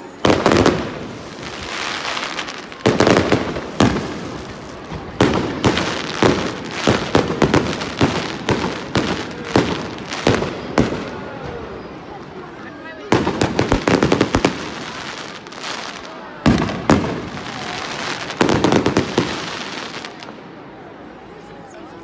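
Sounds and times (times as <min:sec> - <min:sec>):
fireworks bursting with sharp bangs: 0:00.0 - 0:20.7.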